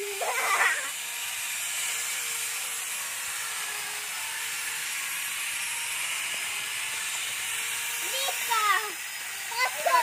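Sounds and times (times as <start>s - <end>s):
small chainsaw cutting branch: 0.0s - 10.0s.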